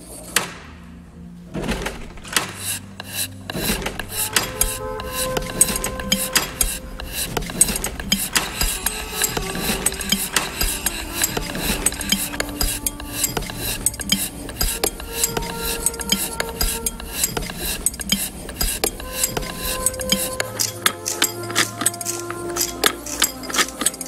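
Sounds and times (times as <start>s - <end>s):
rapid metallic clicking: 1.7s - 24.0s
held ringing tones: 2.0s - 24.0s.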